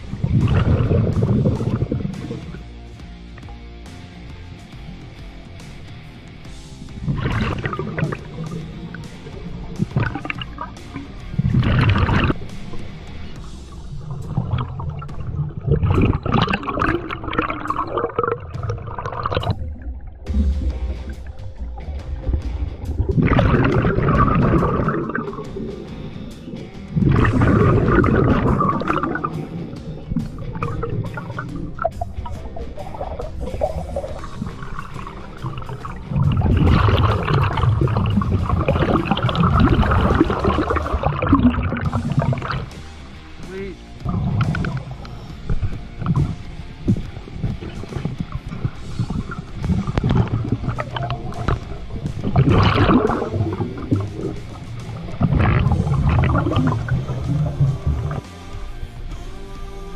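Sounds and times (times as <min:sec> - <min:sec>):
low underwater rumble: 0:00.0 - 0:59.1
underwater gurgling and sloshing: 0:00.0 - 0:59.1
water churning and bubbling: 0:00.0 - 0:59.5.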